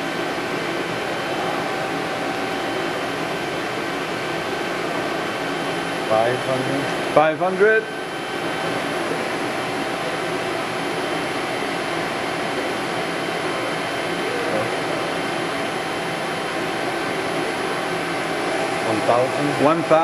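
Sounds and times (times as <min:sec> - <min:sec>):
machine spindle whirring: 0:00.0 - 0:20.0.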